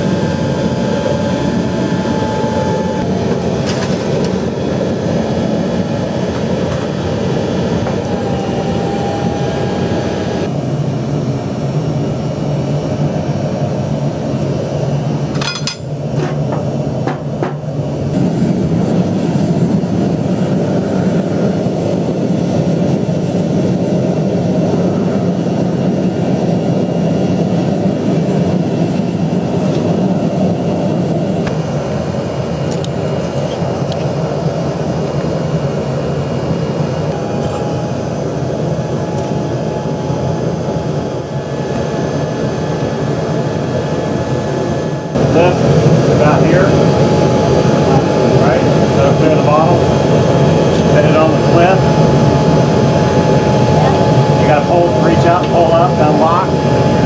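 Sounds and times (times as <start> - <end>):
loud mechanical roar: 0.0 - 57.0.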